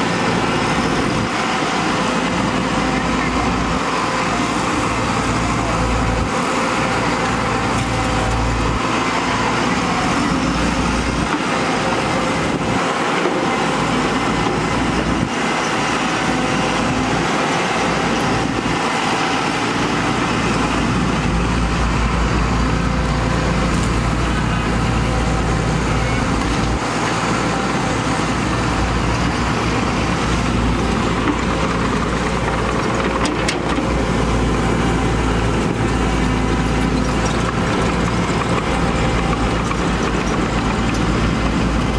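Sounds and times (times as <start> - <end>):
excavator diesel engine rumbling: 0.0 - 41.9.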